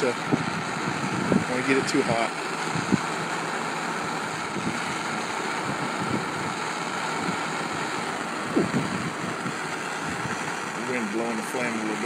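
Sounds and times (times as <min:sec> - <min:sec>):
propane torch hissing: 0:00.0 - 0:12.0.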